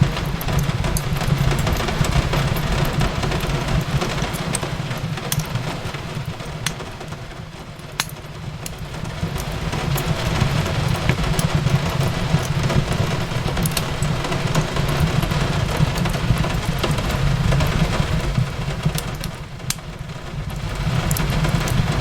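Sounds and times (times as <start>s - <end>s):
steady low rumble: 0.0s - 5.6s, 7.8s - 22.0s
fireplace crackling: 0.0s - 22.0s
rain on a window: 0.0s - 22.0s.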